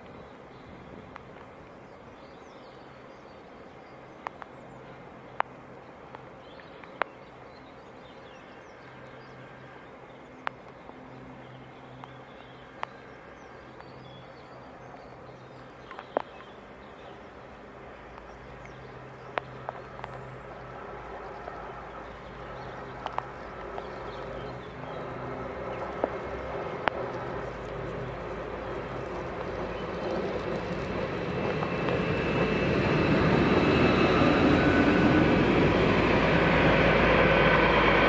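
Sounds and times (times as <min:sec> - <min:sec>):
approaching train hum: 0:02.2 - 0:38.0.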